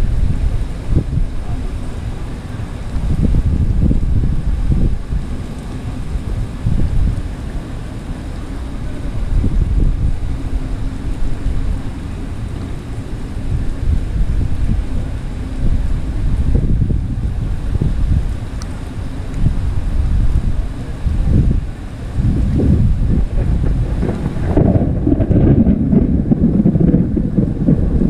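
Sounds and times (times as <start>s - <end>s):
heavy rain on paving: 0.0s - 28.0s
wind buffeting microphone: 0.0s - 28.0s.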